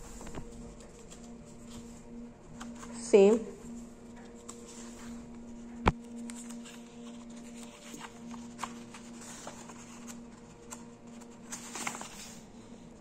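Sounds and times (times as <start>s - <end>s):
faint steady hum: 0.0s - 13.0s
paper pages rustling: 0.0s - 13.0s.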